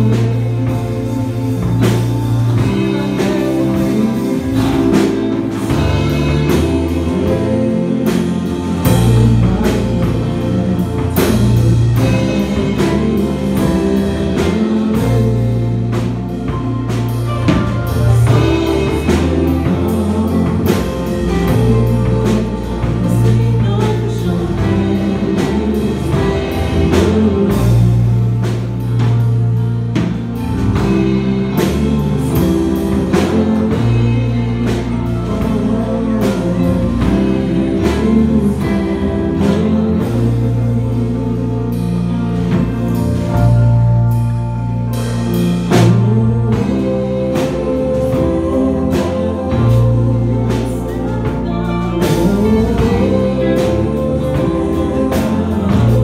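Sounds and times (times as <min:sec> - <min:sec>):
bass line: 0:00.0 - 0:56.0
drums keeping a beat: 0:00.0 - 0:56.0
vocal group singing: 0:00.0 - 0:56.0.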